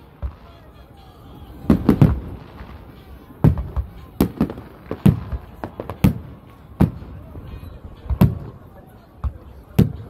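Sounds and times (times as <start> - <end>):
fireworks booming: 0.0 - 10.0.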